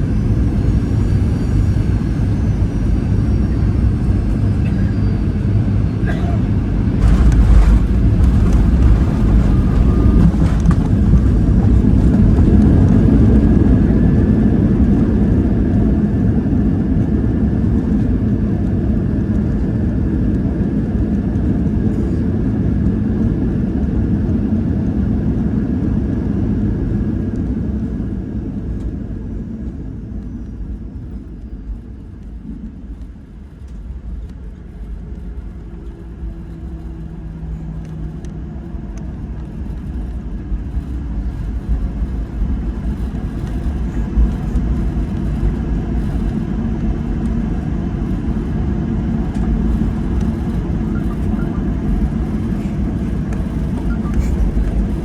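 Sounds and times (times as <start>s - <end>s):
jet engines and runway rumble: 0.0s - 55.0s.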